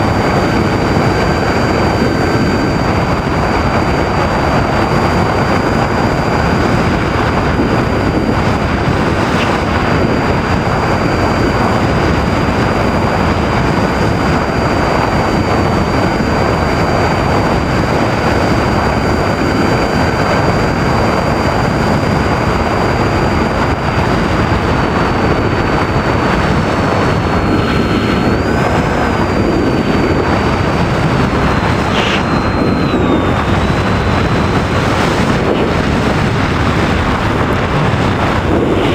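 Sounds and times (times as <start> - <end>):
high electric motor whine: 0.0 - 38.9
wind rushing over microphone: 0.0 - 38.9.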